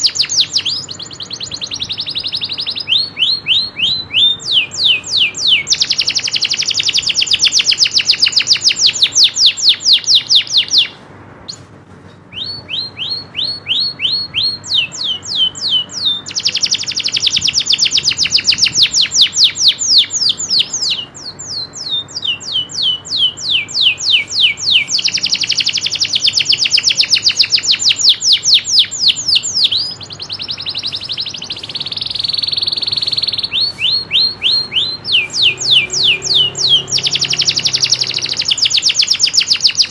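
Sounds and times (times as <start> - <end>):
canary singing trills: 0.0 - 11.6, 12.3 - 39.9.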